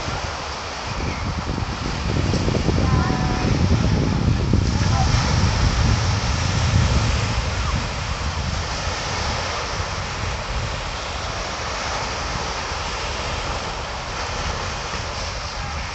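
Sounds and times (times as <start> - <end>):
waves washing up shingle beach: 0.0 - 15.9
wind buffeting microphone: 0.0 - 15.9.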